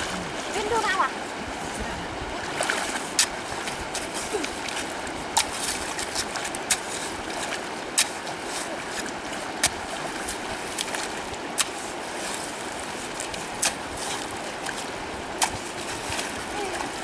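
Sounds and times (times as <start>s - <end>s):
river running over stones: 0.0s - 17.0s.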